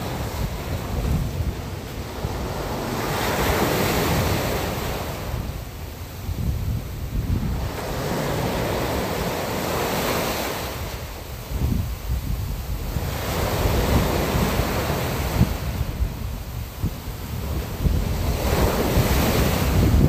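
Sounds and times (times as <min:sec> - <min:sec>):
sea surf washing in: 0:00.0 - 0:20.0
wind gusting over microphone: 0:00.0 - 0:20.0.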